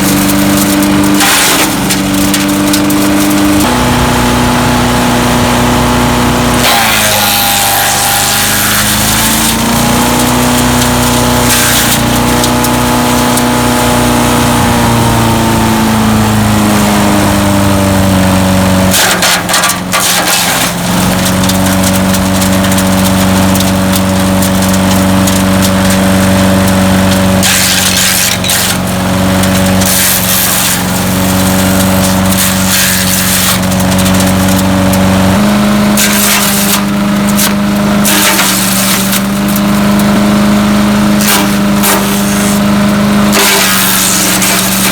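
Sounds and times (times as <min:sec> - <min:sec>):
crunching and rattling of chipping: 0:00.0 - 0:44.9
wood chipper engine running: 0:00.0 - 0:44.9.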